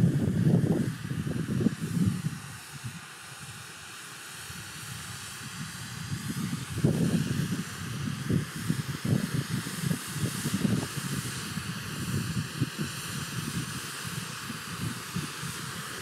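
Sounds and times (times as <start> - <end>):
wind rumble on microphone: 0.0 - 3.6, 4.5 - 16.0
fireworks hissing: 0.0 - 16.0.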